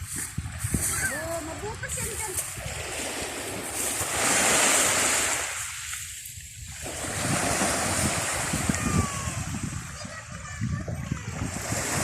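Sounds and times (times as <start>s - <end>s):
ocean waves breaking: 0.0s - 12.0s
wind rumbling on microphone: 0.0s - 12.0s.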